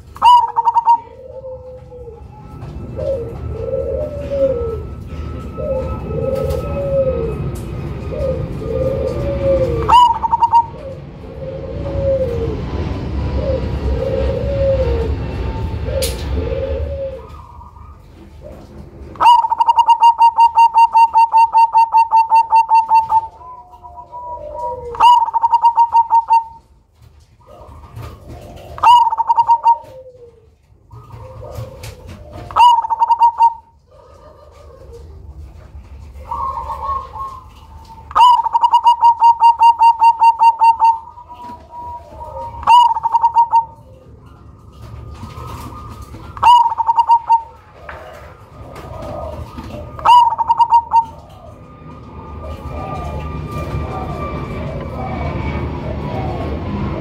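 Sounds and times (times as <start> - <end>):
dove cooing in staccato bursts: 0.0 - 57.0
soft low falling dove calls: 0.0 - 57.0.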